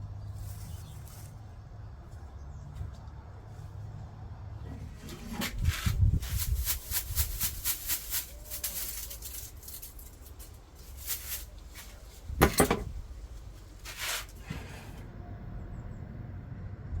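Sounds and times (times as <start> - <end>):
rustling and crackling: 0.2 - 15.1.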